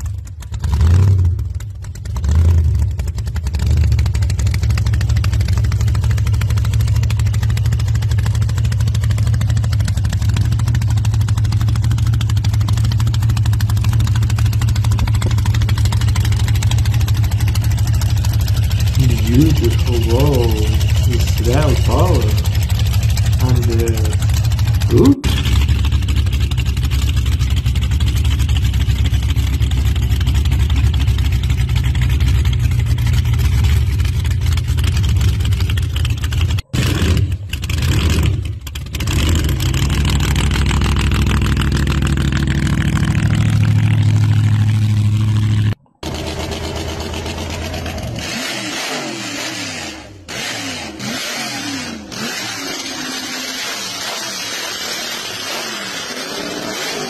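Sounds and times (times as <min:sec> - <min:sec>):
loud engine with open headers revving: 0:00.0 - 0:57.0.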